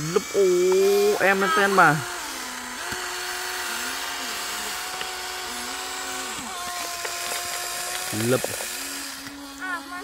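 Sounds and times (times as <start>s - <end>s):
small electric motors whining: 0.0s - 10.0s.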